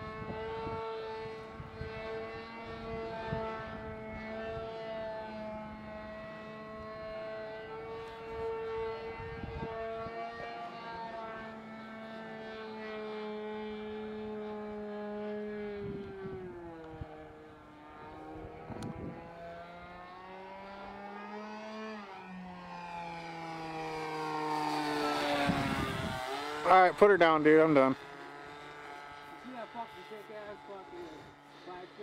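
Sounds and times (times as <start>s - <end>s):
model airplane engine: 0.0s - 32.0s.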